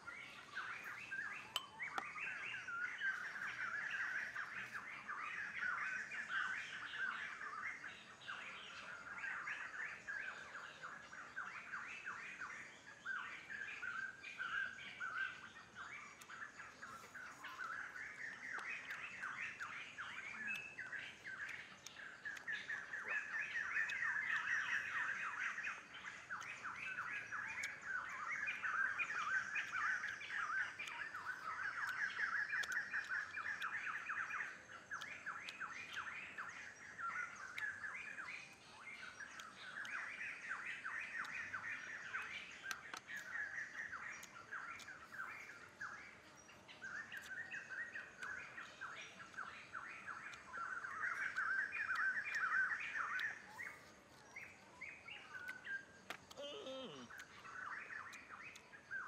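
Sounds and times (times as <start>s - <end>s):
birds chirping in rapid trills: 0.0s - 59.0s.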